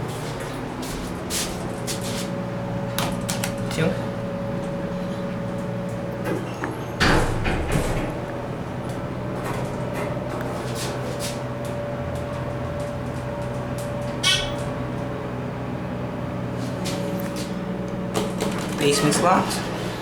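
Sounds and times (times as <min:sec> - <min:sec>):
elevator hydraulic pump hum: 0:00.0 - 0:20.0.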